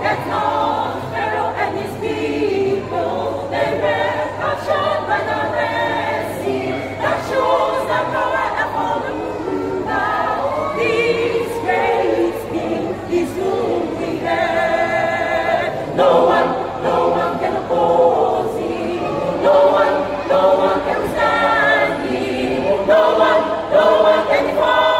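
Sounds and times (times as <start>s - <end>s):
church choir singing in parts: 0.0s - 24.9s.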